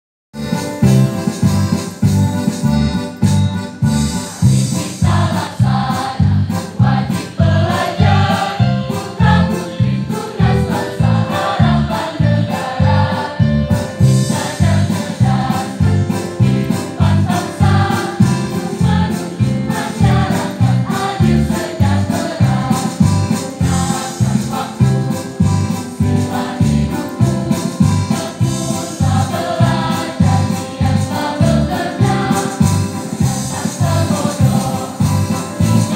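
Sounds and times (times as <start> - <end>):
electronic keyboard with steady beat: 0.4 - 35.9
school choir singing: 4.4 - 35.9.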